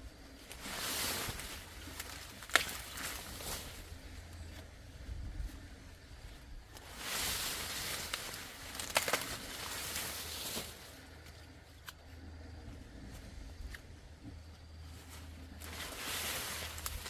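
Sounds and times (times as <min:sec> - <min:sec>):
rustling: 0:00.3 - 0:11.9, 0:14.8 - 0:17.0.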